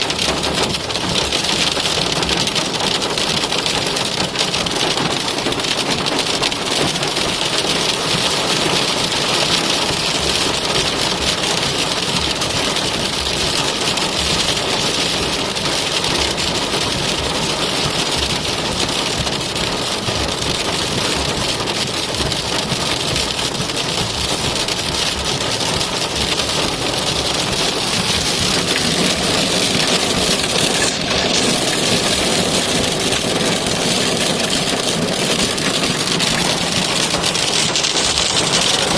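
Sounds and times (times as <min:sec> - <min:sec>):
hail pelting a car: 0:00.0 - 0:38.9.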